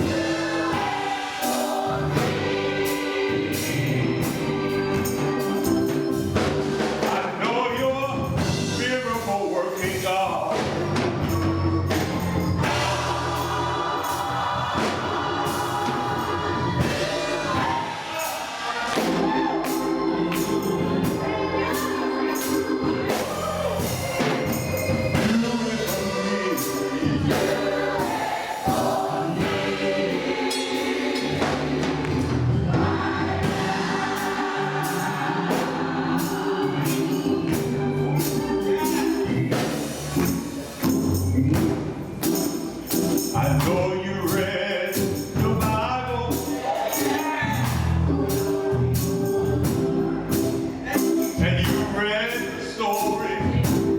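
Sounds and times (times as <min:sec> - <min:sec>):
band with bass and beat: 0:00.0 - 0:53.9
gospel choir singing in harmony: 0:00.0 - 0:53.9.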